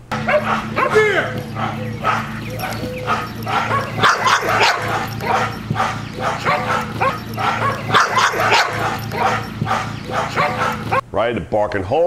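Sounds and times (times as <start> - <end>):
dog barking: 0.1 - 11.0.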